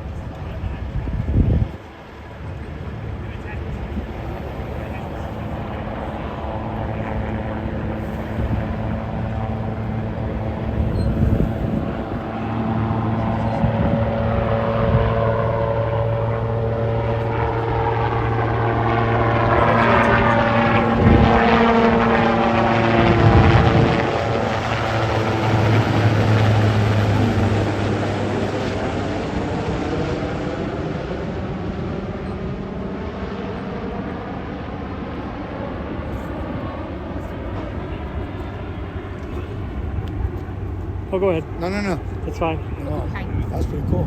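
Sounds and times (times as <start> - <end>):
helicopter rotor and engines: 0.0 - 44.0.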